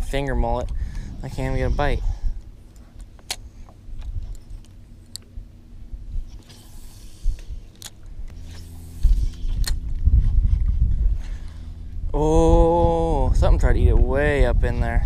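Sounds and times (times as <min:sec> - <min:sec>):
low rumbling buffets: 0:00.0 - 0:15.0
electric trolling motor humming: 0:00.7 - 0:13.5.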